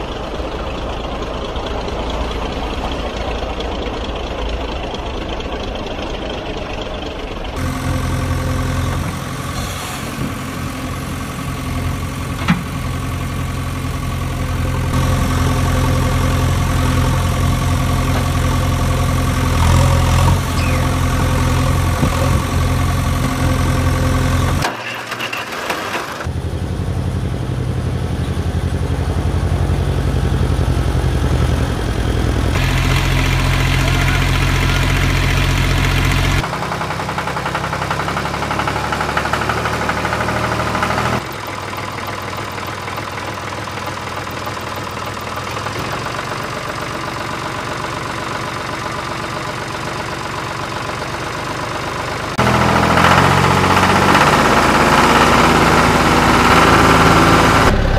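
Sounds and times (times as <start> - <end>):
diesel engine idling: 0.0 - 25.1, 25.8 - 57.9.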